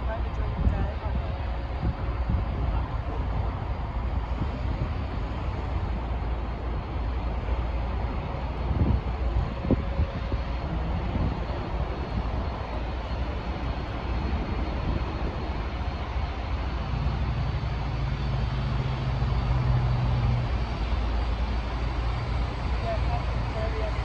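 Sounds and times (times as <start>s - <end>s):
rushing engine noise: 0.0s - 24.0s.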